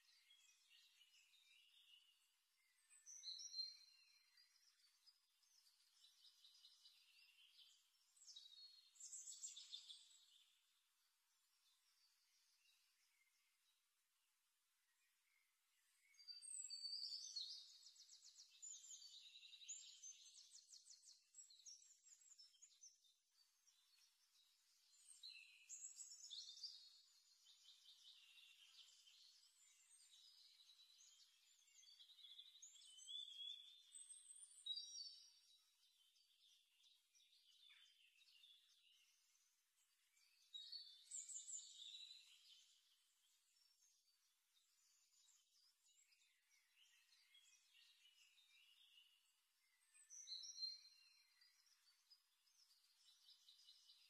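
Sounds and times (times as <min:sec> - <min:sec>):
faint bird chirping: 0:00.0 - 0:54.0.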